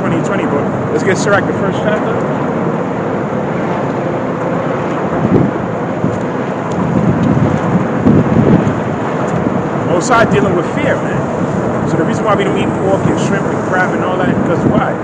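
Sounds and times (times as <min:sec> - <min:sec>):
traffic noise: 0:00.0 - 0:15.0
wind on microphone: 0:00.0 - 0:15.0.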